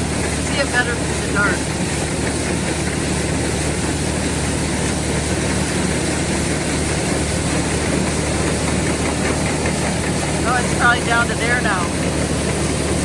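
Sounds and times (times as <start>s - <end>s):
grain dryer rushing noise: 0.0s - 13.0s
tractor engine drone: 0.0s - 13.0s.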